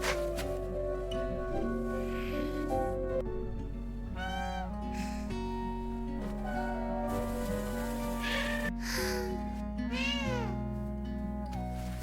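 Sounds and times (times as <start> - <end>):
music with ringing tones: 0.0 - 12.0.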